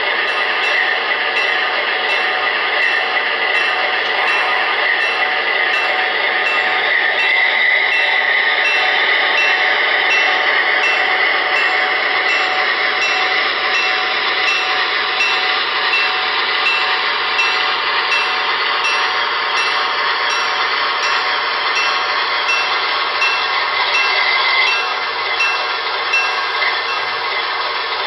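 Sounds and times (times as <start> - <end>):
model diesel engine sound: 0.0 - 28.0.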